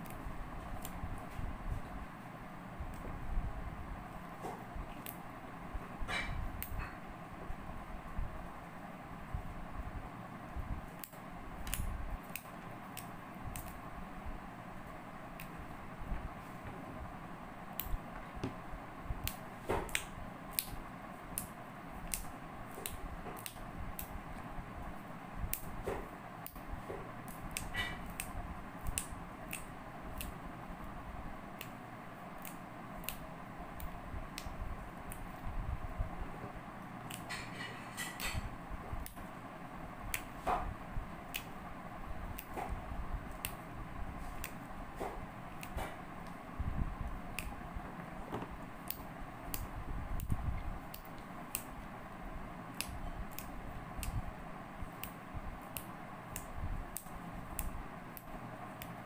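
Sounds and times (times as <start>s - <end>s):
background hum: 0.0s - 59.0s.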